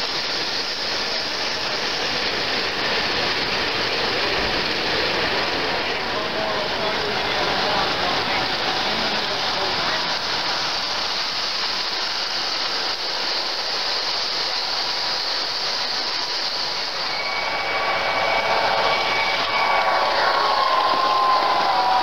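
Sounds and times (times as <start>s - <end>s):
model trains rumbling on track: 0.0s - 22.0s
thin steady whine: 0.0s - 22.0s.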